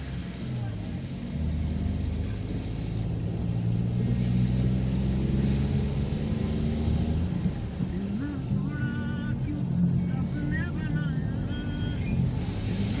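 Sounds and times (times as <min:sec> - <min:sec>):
car engine hum: 0:00.0 - 0:13.0
tyre and road noise: 0:00.0 - 0:13.0.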